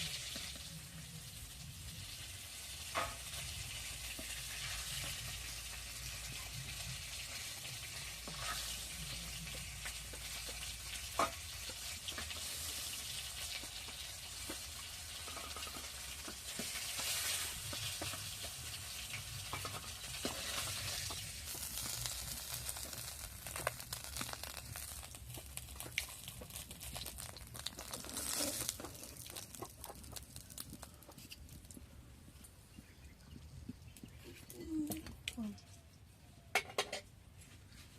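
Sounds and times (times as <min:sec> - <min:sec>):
food sizzling in hot oil: 0:00.0 - 0:31.1.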